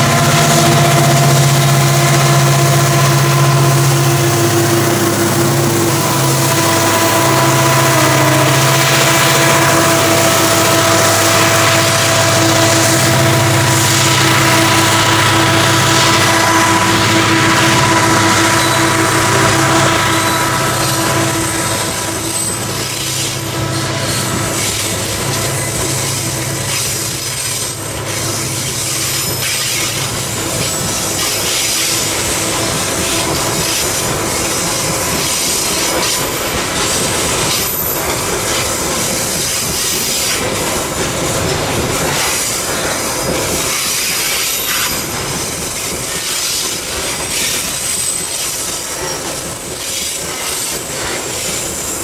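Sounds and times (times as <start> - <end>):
diesel locomotive drone: 0.0 - 52.0
steel wheels squealing: 0.0 - 52.0
wheels clacking over rail joints: 0.0 - 52.0.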